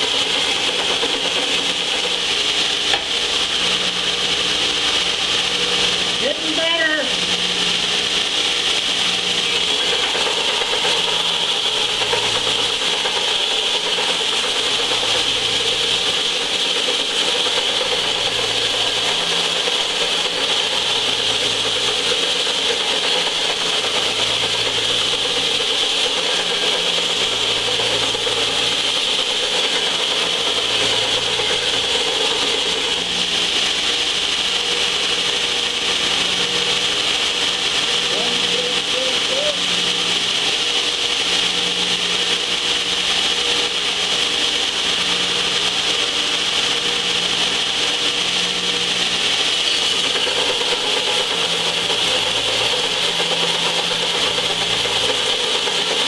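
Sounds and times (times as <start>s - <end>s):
belt sander grinding metal: 0.0s - 56.0s.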